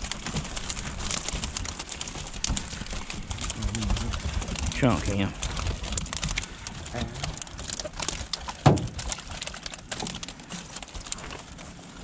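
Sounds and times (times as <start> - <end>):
net and fish rattling on boat hull: 0.0 - 12.0.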